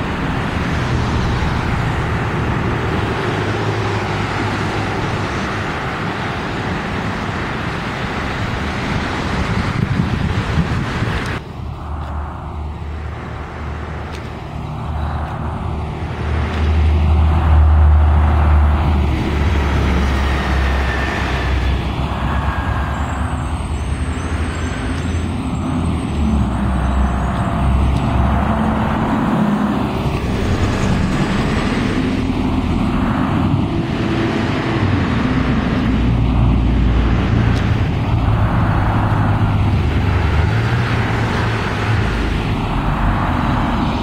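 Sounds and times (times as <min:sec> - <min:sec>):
diesel bus engine drone: 0:00.0 - 0:44.0
general traffic: 0:00.0 - 0:44.0.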